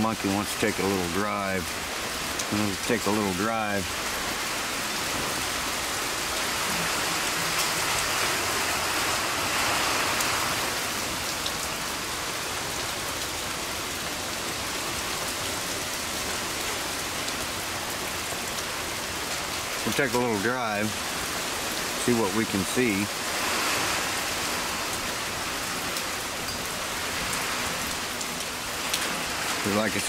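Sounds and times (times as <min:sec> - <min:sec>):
steady rain falling: 0:00.0 - 0:30.0
wind gusting through trees: 0:00.0 - 0:30.0.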